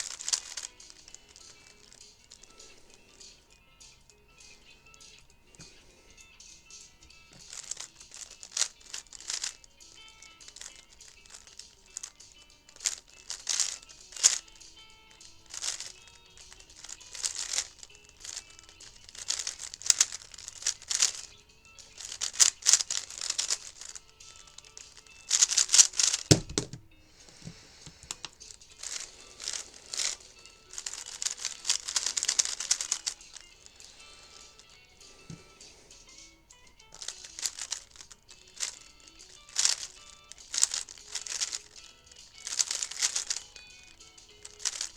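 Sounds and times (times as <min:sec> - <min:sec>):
background music: 0:00.0 - 0:44.9
speed cube clicking: 0:00.0 - 0:44.9.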